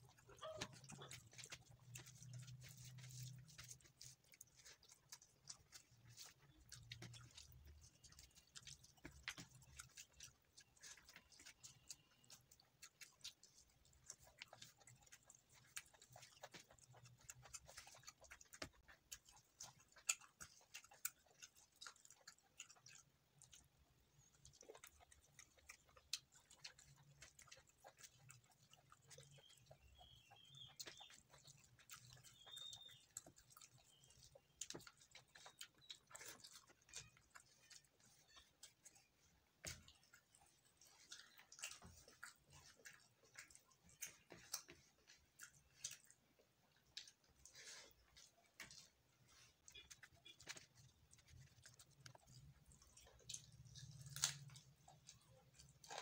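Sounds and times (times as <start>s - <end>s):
close-up chewing sounds: 0.0s - 56.0s.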